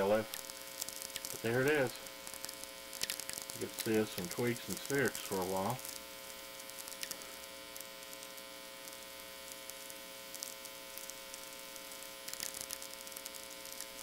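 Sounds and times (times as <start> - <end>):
mains hum: 0.0 - 14.0
radio clicks and crackles: 0.1 - 14.0.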